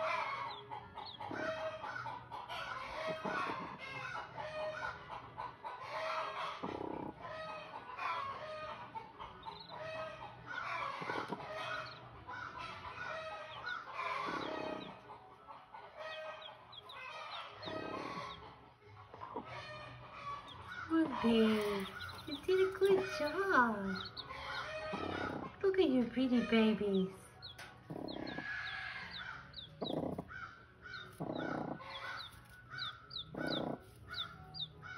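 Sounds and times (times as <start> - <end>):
chickens clucking: 0.0 - 34.9
chicks peeping: 0.0 - 34.9.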